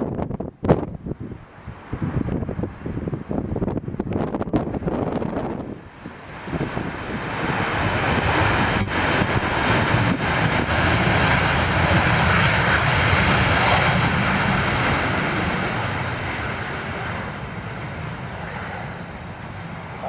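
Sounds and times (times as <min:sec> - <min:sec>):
jet airliner engines: 0:00.0 - 0:20.0
wind buffeting microphone: 0:00.0 - 0:20.0.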